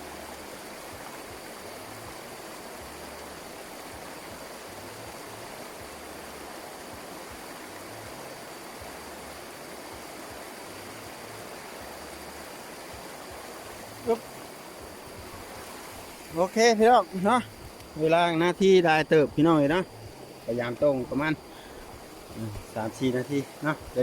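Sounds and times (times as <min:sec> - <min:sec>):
runoff water rushing: 0:00.0 - 0:24.0.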